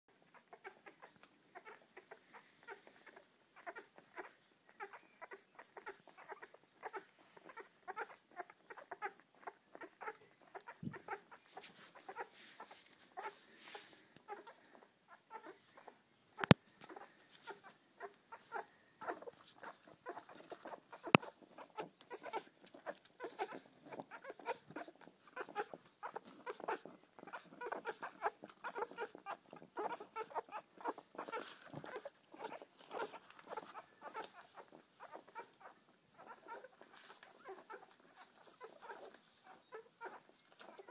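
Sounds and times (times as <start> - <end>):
puppies squeaking and suckling: 0.1 - 40.9.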